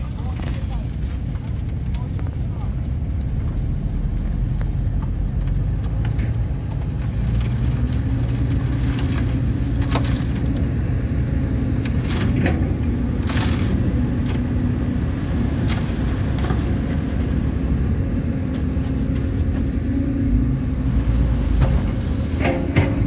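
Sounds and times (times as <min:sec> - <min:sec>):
diesel engines rumbling: 0:00.0 - 0:23.0.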